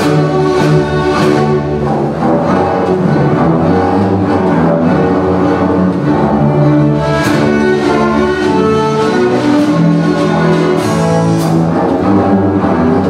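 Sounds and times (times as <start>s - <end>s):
double basses bowing: 0.0s - 13.0s.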